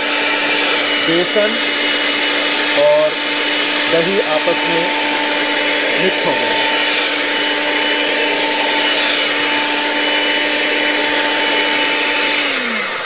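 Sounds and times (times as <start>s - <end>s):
batter churning: 0.0s - 13.0s
electric mixer motor running: 0.0s - 13.0s.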